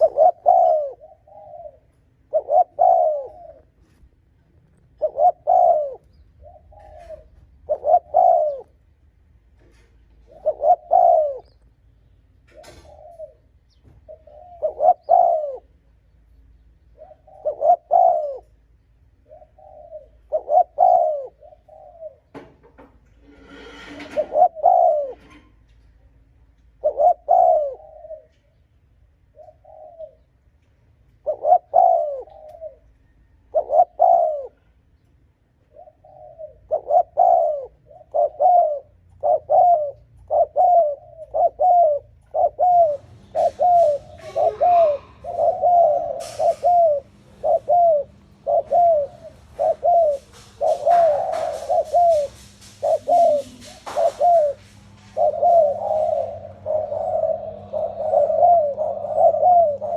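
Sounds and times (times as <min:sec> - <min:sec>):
dove cooing: 0:00.0 - 0:11.8, 0:12.4 - 0:16.1, 0:16.9 - 0:26.1, 0:26.7 - 0:30.4, 0:31.1 - 0:59.9.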